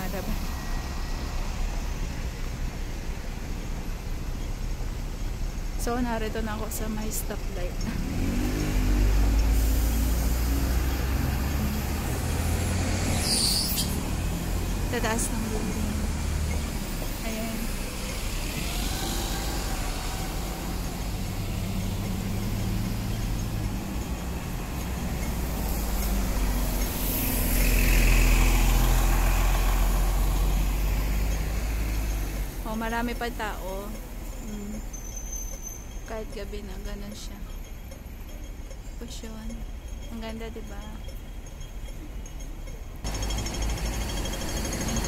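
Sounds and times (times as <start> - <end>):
bus engine rumbling: 0.0 - 45.0
traffic noise: 0.0 - 45.0.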